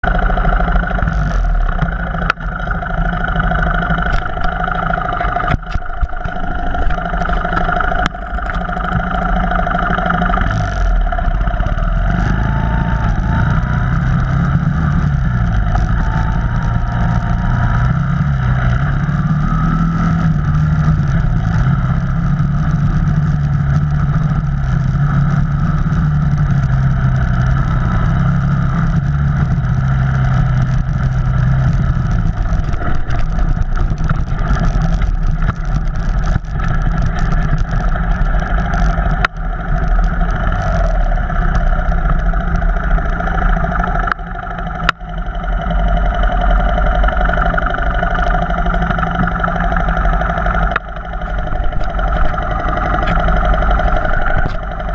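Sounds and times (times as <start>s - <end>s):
off-road vehicle engine: 0.0s - 54.9s.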